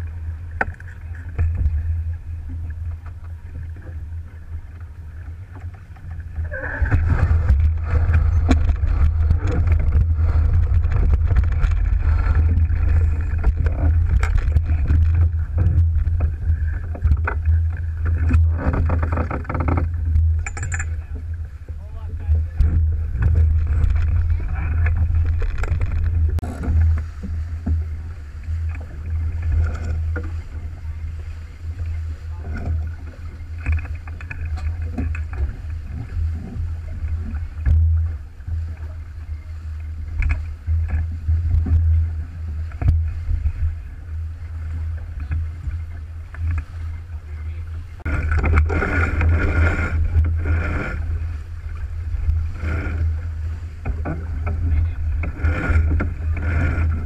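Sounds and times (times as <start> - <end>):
water rushing along a hull: 0.0 - 57.0
wind buffeting microphone: 0.0 - 57.0.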